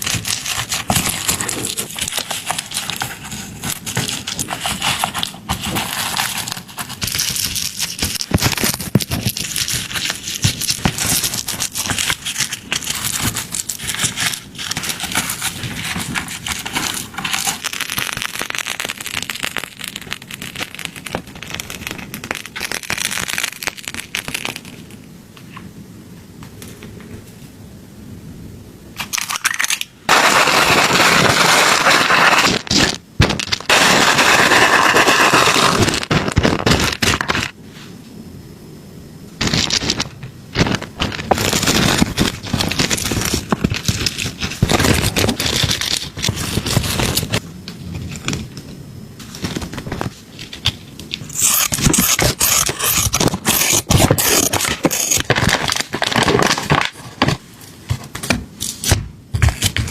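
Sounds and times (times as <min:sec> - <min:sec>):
dense steady hiss: 0:00.0 - 0:59.9.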